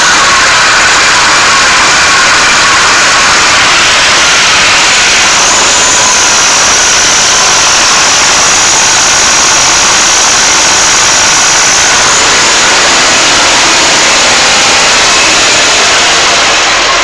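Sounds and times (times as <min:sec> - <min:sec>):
high whine: 0:00.0 - 0:17.0
tractor diesel engine running: 0:00.0 - 0:17.0.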